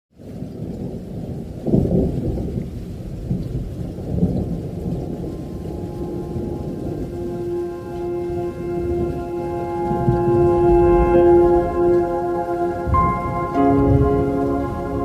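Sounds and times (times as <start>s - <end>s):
rain: 0.1s - 15.0s
muffled rolling thunder: 0.2s - 15.0s.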